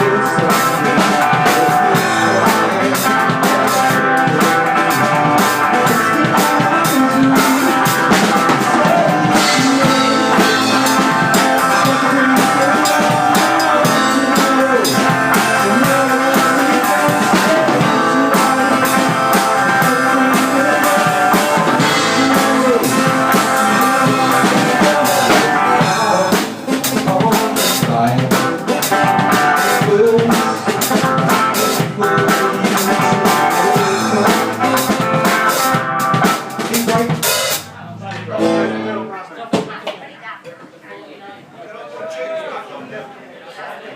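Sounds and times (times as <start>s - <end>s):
electric guitar: 0.0s - 39.1s
rock band playing live: 0.0s - 39.1s
drums: 0.0s - 40.8s.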